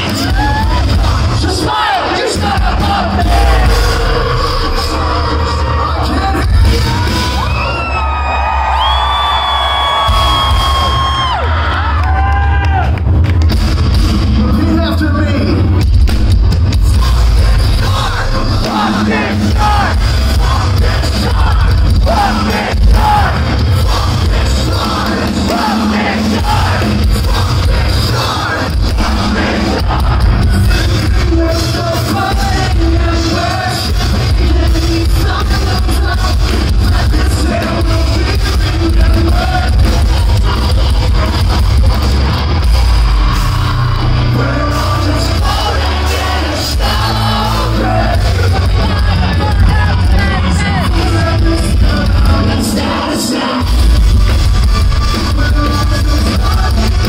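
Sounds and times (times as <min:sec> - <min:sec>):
metal band playing live: 0:00.0 - 0:08.8, 0:09.8 - 0:57.0
sung and shouted vocals: 0:00.0 - 0:12.9, 0:16.6 - 0:57.0.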